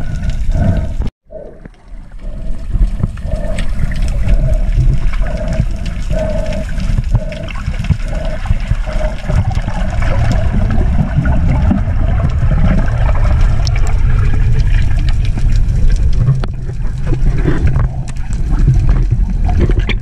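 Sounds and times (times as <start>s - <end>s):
pulsing hum: 0.0s - 19.9s
crackling clicks underwater: 0.0s - 20.0s
underwater rumbling wash: 0.0s - 20.0s.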